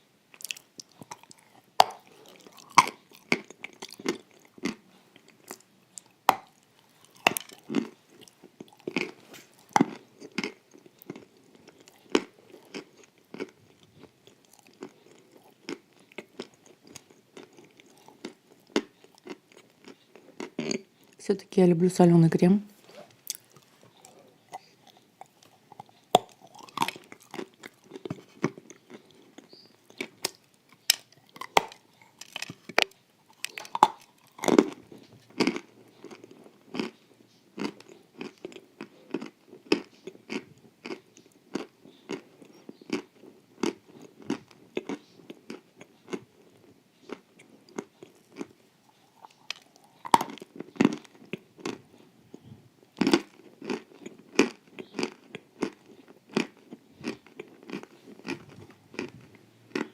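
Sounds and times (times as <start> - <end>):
chewing crunchy wafers: 0.3 - 21.2, 23.0 - 59.9.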